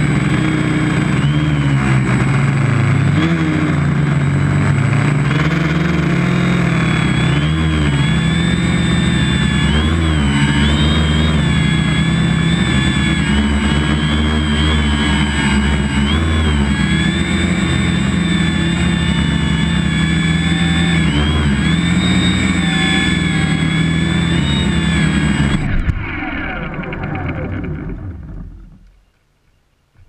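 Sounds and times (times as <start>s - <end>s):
drone propellers whining: 0.0s - 29.2s.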